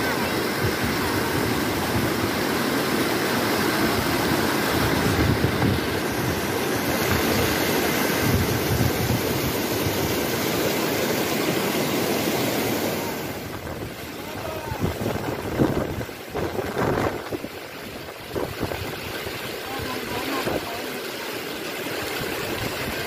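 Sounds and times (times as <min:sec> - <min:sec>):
water rushing over rock ledges: 0:00.0 - 0:23.0.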